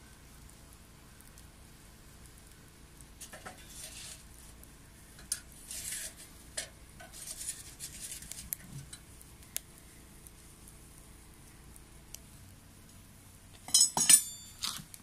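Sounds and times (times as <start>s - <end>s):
wood crackling in a stove: 0.0s - 15.0s.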